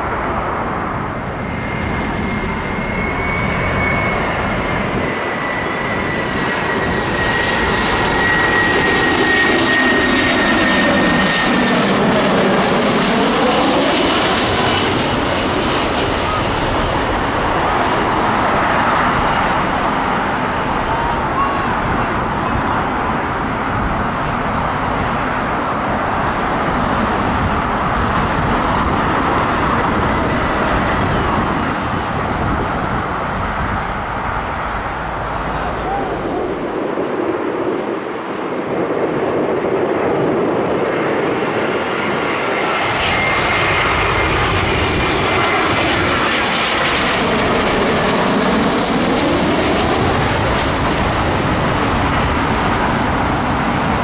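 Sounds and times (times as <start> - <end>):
high jet whine: 0.0 - 54.0
jet engines rushing: 0.0 - 54.0.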